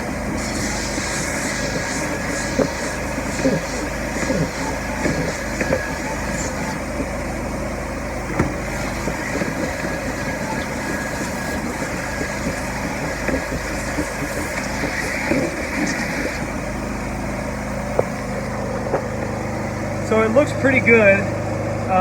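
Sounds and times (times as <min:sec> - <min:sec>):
carpet cleaning machine motor humming: 0:00.0 - 0:22.0.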